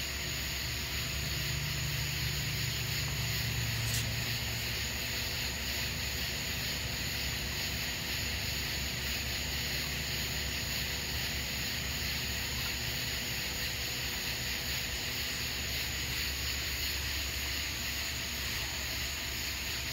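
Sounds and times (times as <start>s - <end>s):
aquarium equipment hiss: 0.0s - 19.9s.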